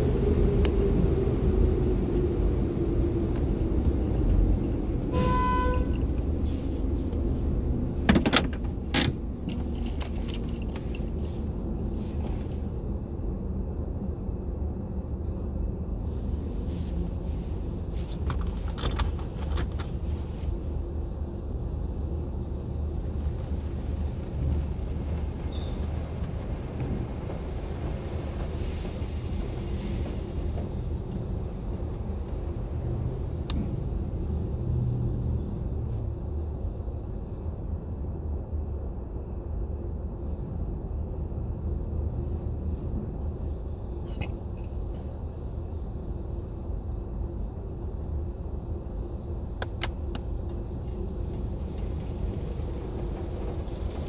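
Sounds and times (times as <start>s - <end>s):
car wash machinery rumble: 0.0s - 38.6s, 41.0s - 54.0s.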